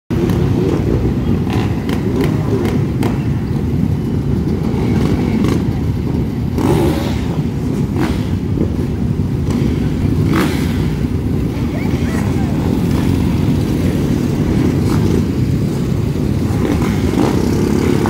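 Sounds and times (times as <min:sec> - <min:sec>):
motorbikes rumbling: 0:00.1 - 0:18.0.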